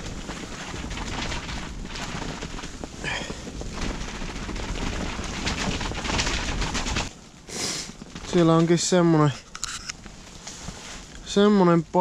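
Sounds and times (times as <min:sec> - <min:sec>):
gusty wind: 0:00.0 - 0:12.0
tent fabric flapping in wind: 0:00.0 - 0:12.0.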